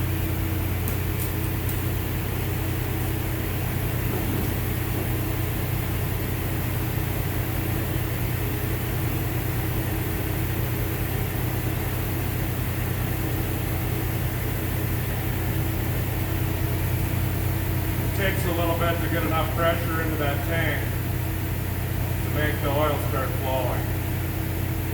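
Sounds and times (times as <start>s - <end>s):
machine humming: 0.0s - 24.9s.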